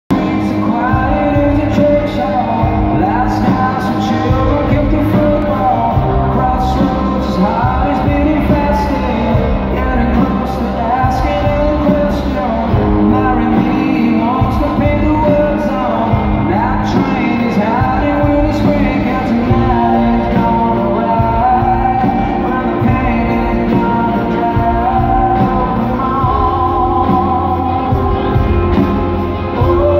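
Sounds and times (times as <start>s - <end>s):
live rock band playing: 0.1s - 29.9s
man singing: 0.1s - 29.9s.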